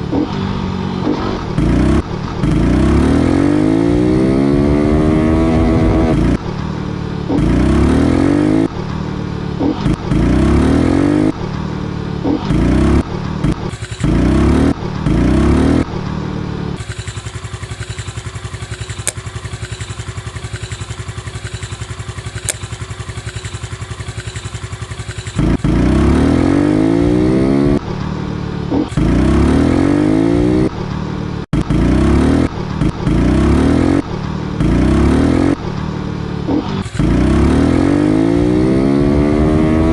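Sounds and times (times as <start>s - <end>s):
small motorcycle engine revving: 0.0s - 6.4s, 7.3s - 8.7s, 9.6s - 11.4s, 12.2s - 15.9s, 16.7s - 27.8s, 28.6s - 30.9s, 31.5s - 35.7s, 36.4s - 39.9s.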